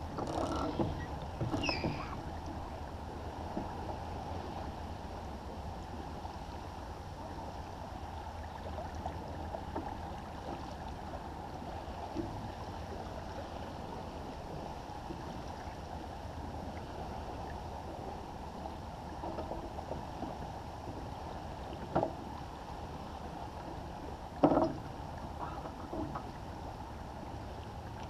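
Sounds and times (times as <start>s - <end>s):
water splashing along boat hull: 0.0s - 28.0s.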